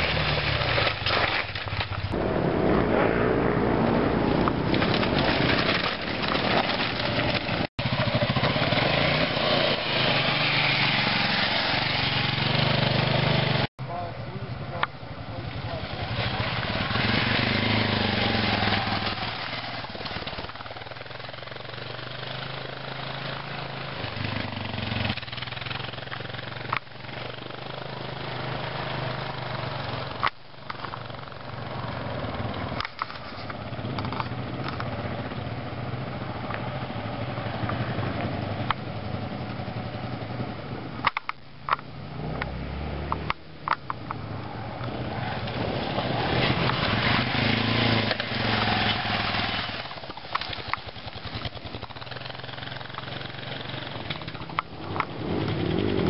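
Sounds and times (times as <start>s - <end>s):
motorcycle engine drone: 0.0s - 56.0s.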